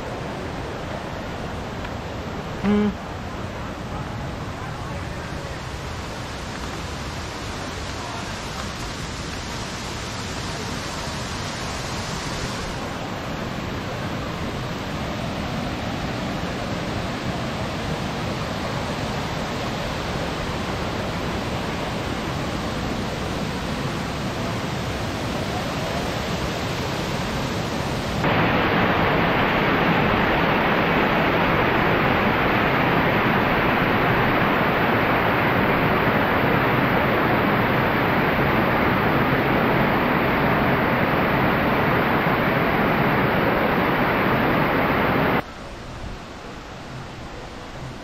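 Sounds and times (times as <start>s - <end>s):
waterfall roaring over rock: 0.0s - 48.0s.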